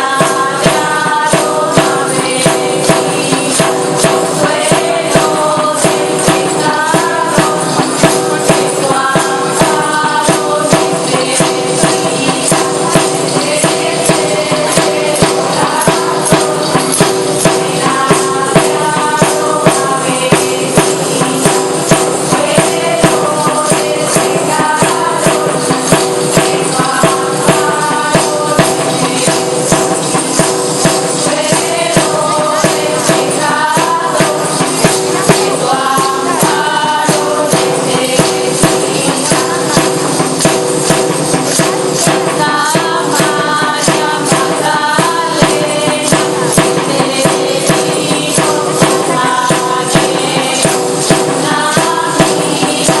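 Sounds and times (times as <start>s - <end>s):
tambourines beating a rhythm: 0.0s - 53.0s.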